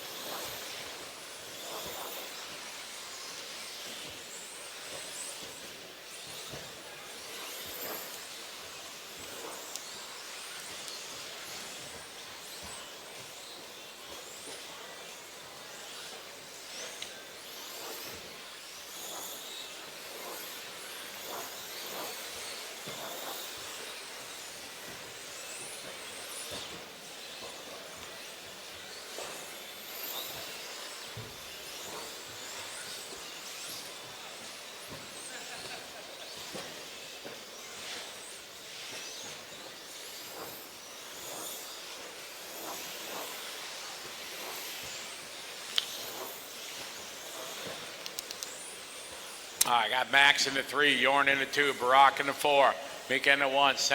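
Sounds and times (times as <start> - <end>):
steady hiss: 0.0 - 53.9.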